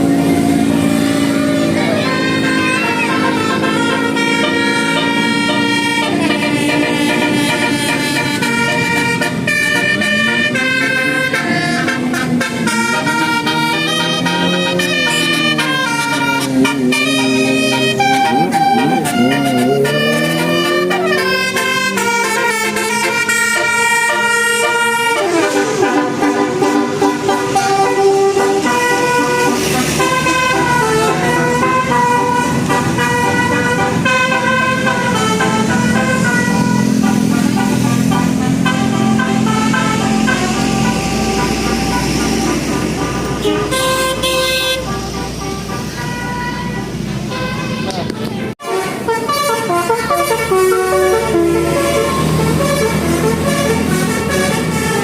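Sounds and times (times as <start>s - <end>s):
multi-tone bus air horn tune: 0.0s - 55.0s.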